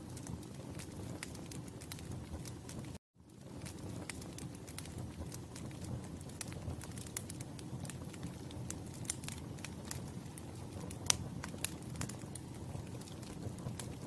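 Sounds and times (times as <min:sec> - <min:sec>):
campfire crackling: 0:00.0 - 0:14.0
rumble of flames: 0:00.0 - 0:14.0.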